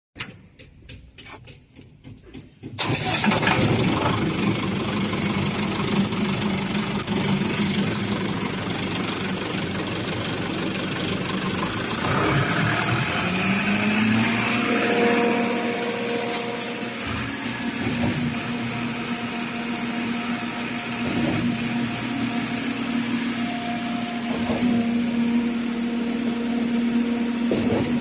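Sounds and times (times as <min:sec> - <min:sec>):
concrete pump engine running: 0:01.4 - 0:28.0.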